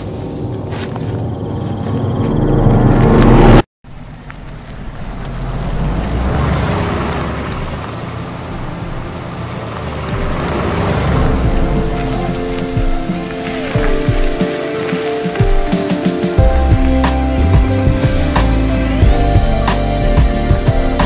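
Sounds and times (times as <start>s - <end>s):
wind and tyre noise: 0.0s - 21.0s.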